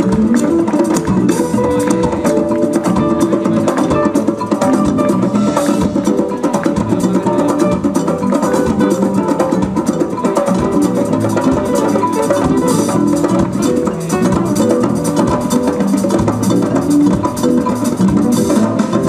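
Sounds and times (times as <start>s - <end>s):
drum kit: 0.0s - 19.0s
electric guitars: 0.0s - 19.0s
hand percussion: 0.0s - 19.0s.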